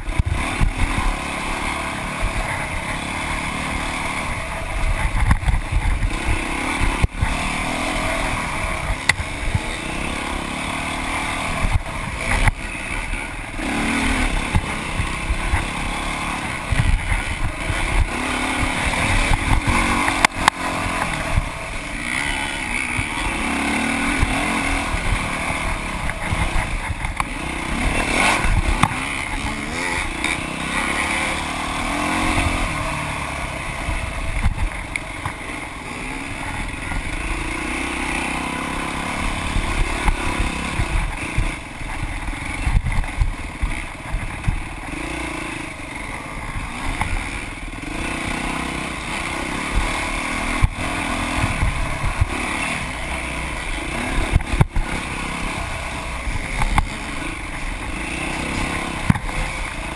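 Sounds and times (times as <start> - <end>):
bike knocking and rattling: 0.0 - 59.9
dirt bike engine revving: 0.0 - 59.9.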